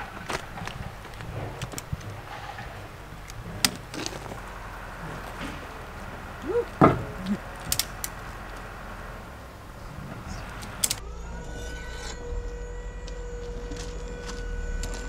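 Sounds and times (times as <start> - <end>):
heavy machine engine running: 0.0 - 15.0
high motor whine: 0.0 - 15.0.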